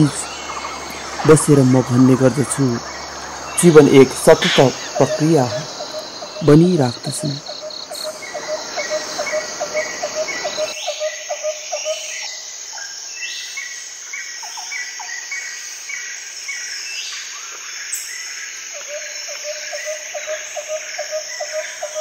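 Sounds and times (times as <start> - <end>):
birds calling: 0.0 - 22.0
high insect drone: 0.0 - 22.0.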